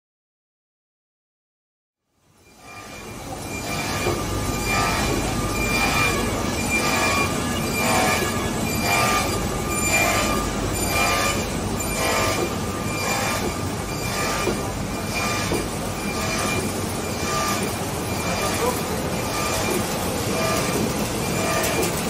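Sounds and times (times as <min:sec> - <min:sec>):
binding machine running: 0:02.4 - 0:22.0.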